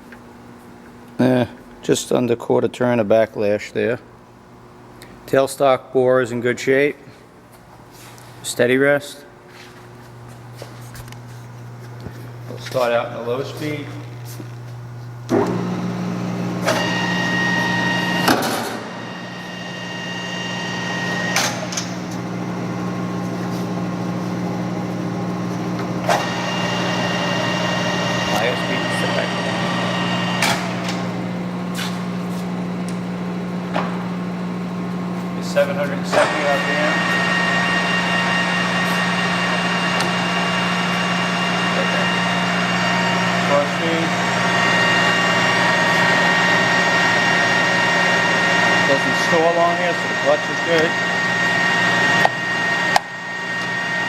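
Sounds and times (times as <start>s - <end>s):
lathe humming with gear whine: 9.6s - 54.0s.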